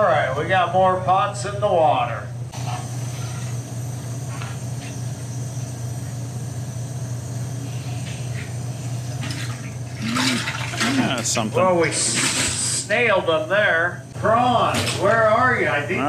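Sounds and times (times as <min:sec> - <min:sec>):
low hum of boat machinery: 0:00.0 - 0:16.0.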